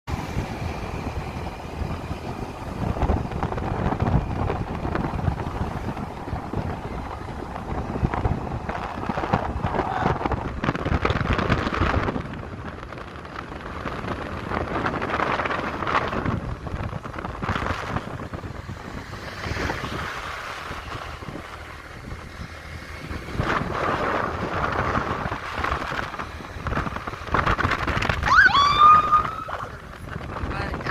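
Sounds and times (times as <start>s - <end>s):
wind gusting on microphone: 0.1s - 30.9s.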